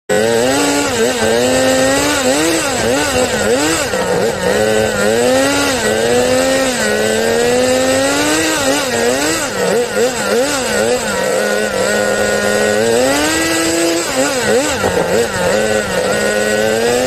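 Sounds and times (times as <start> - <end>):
small two-stroke engine revving: 0.1 - 17.0.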